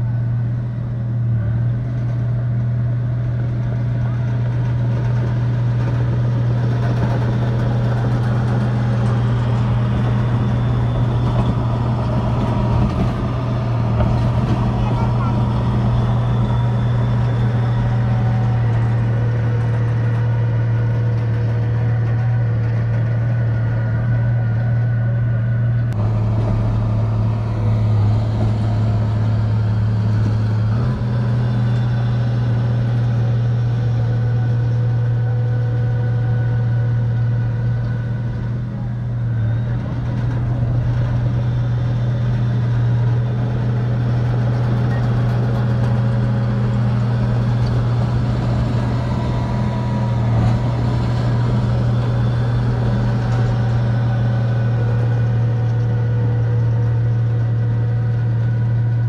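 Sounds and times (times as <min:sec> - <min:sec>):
diesel machinery engines humming: 0:00.0 - 0:59.0.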